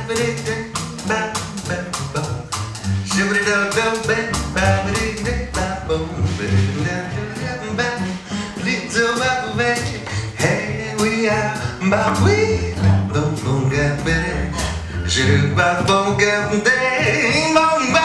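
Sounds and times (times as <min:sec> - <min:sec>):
man singing into microphone: 0:00.0 - 0:18.0
plucked double bass: 0:00.0 - 0:18.0
steady drum beat: 0:00.0 - 0:18.0.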